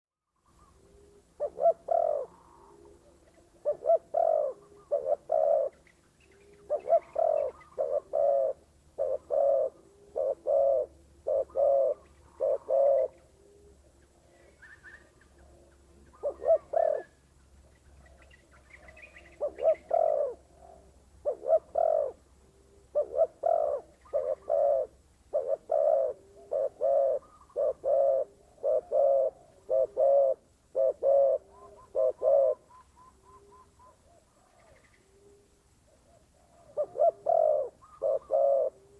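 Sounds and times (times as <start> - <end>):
dove cooing: 0.4 - 38.9.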